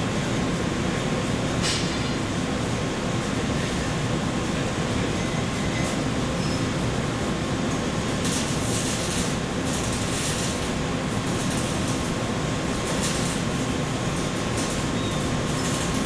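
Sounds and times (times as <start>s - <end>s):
welding hiss and rumble: 0.0s - 16.0s.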